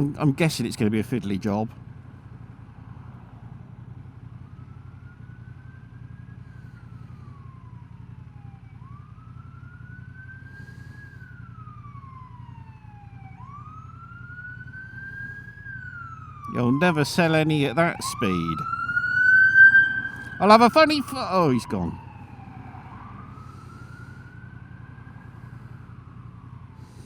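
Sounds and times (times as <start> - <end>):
emergency siren wailing: 3.8 - 27.0.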